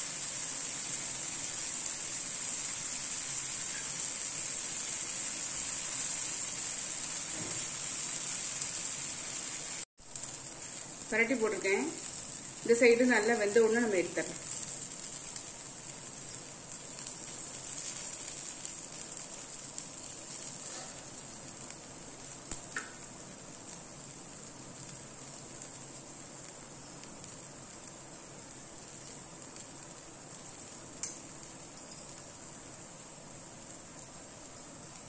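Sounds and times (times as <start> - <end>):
dosa sizzling in oil: 0.0 - 35.0.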